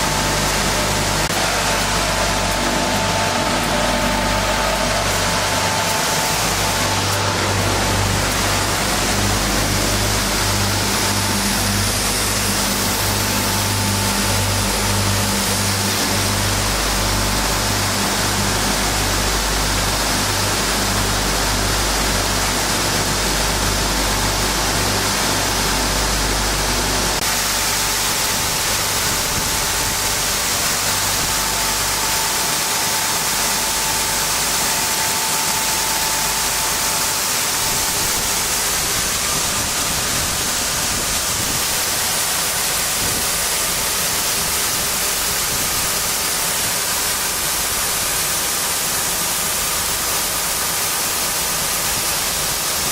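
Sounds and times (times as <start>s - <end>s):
low pulsing rumble: 0.0s - 45.9s
sanding machine rushing noise: 0.0s - 48.0s.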